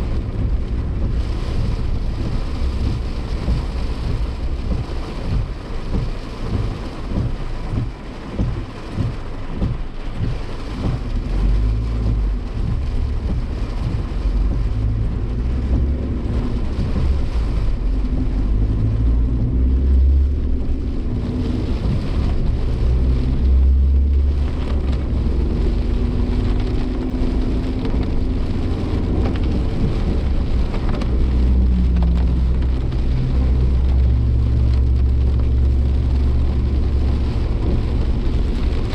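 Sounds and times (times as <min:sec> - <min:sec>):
car engine: 0:00.0 - 0:38.9
gusting wind buffeting: 0:00.0 - 0:38.9
heavy rain beating on car: 0:00.0 - 0:38.9
road noise: 0:00.0 - 0:38.9.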